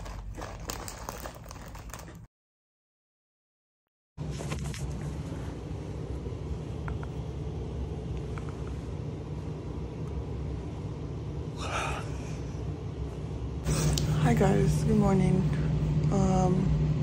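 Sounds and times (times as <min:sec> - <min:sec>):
air conditioner rumbling: 0:00.0 - 0:02.3, 0:04.2 - 0:17.0.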